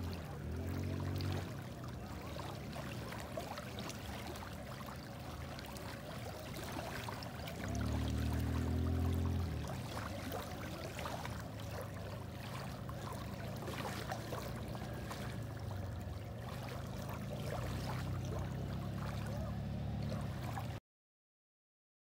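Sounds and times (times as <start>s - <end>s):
small waves lapping: 0.0s - 20.8s.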